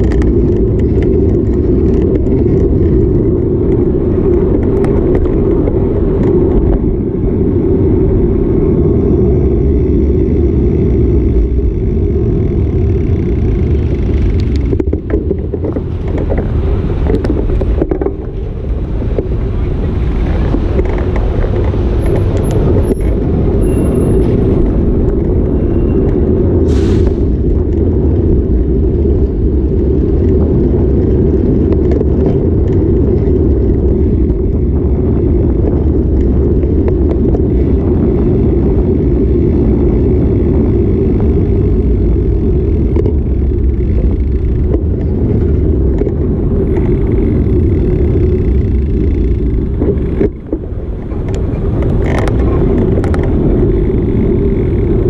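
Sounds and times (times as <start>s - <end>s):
bicycle road noise: 0.0s - 55.0s
city traffic: 0.0s - 55.0s
wind rumble: 0.0s - 55.0s.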